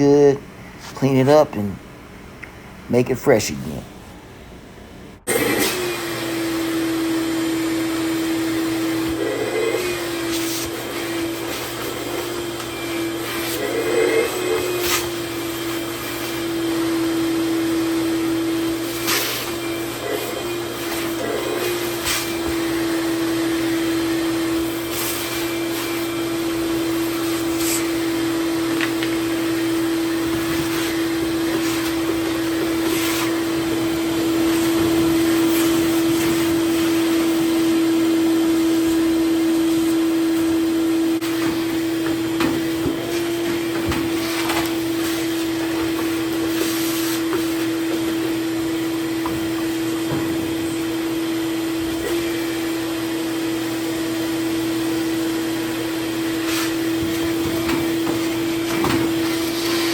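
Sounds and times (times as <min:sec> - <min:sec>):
vacuum cleaner running: 0:03.9 - 0:59.9.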